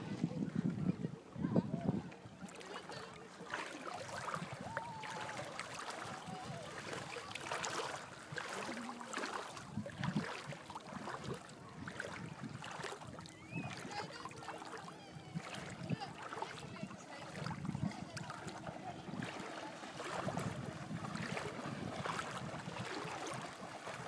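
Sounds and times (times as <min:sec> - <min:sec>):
wading through water splashing: 0:02.4 - 0:24.0.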